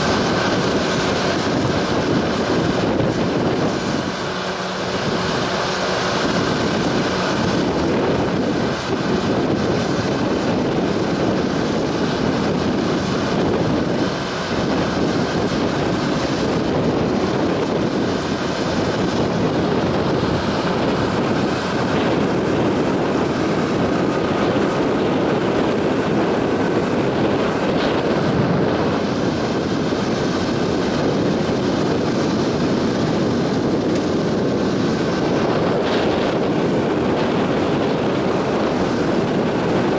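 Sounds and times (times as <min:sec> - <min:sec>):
boat diesel engine droning: 0:00.0 - 0:39.9.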